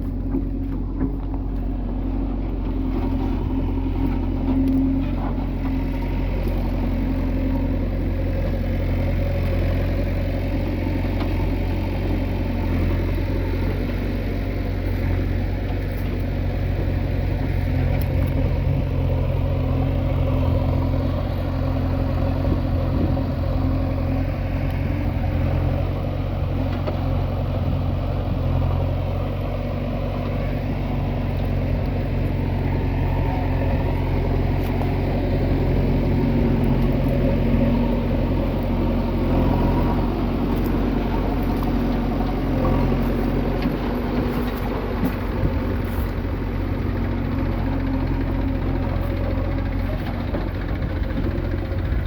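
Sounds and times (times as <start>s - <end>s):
diesel engine rumbling: 0.0s - 52.0s.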